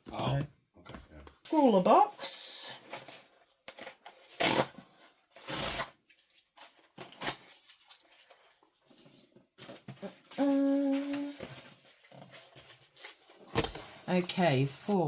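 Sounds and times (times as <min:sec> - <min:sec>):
paper and cardboard rustling: 0:01.7 - 0:15.0.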